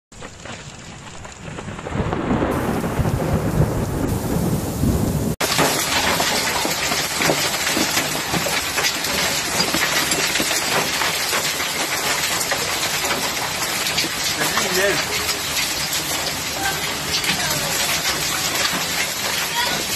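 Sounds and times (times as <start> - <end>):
hailstones clattering on ground: 0.1 - 4.5, 5.4 - 19.9
rain: 0.1 - 19.9
thunder rumbling: 0.2 - 19.9.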